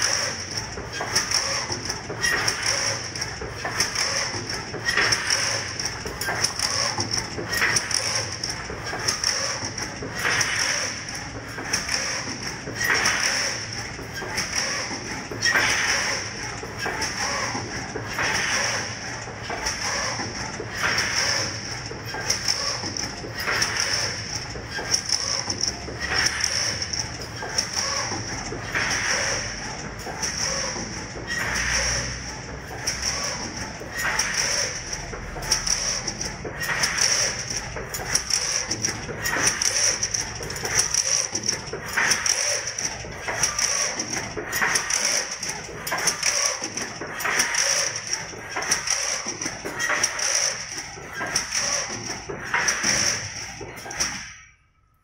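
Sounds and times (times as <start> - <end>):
wire mesh machine whining: 0.0 - 54.3.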